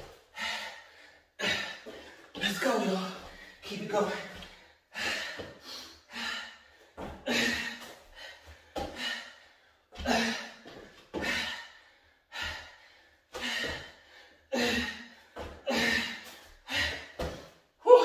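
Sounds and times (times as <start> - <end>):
man breathing hard: 0.0 - 2.4, 4.3 - 17.6.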